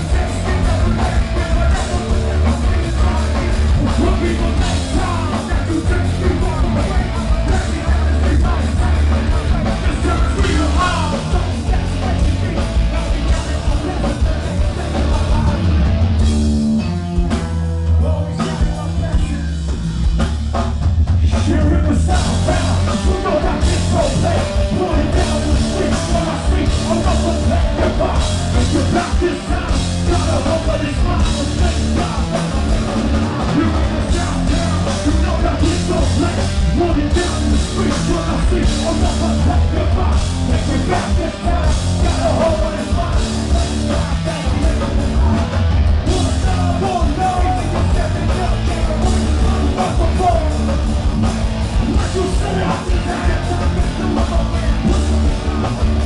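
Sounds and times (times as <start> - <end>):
person singing into a microphone: 0.0 - 15.7, 21.2 - 50.8, 51.8 - 55.3
rock band playing live: 0.0 - 56.0.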